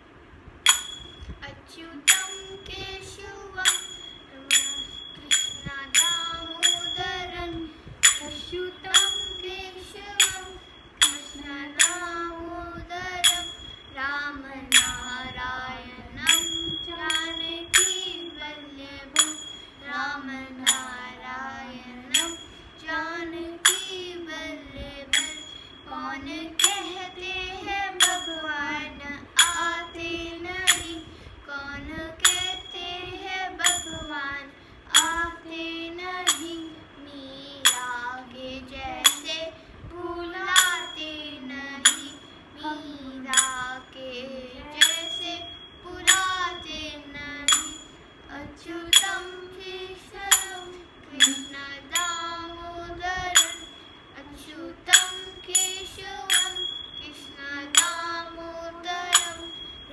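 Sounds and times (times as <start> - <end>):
girl singing devotional song: 0.0 - 59.9
small hand cymbals clashing: 0.6 - 1.4, 2.0 - 31.5, 32.1 - 59.9.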